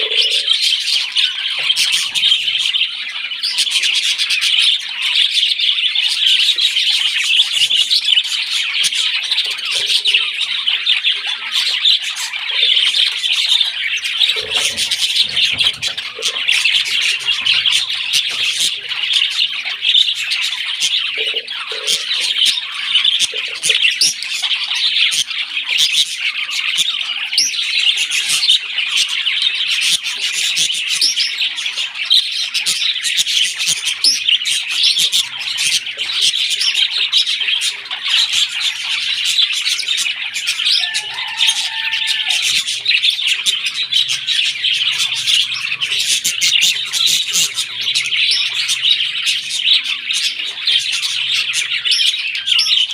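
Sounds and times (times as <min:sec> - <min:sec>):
parrots chirping and chattering: 0:00.0 - 0:52.9.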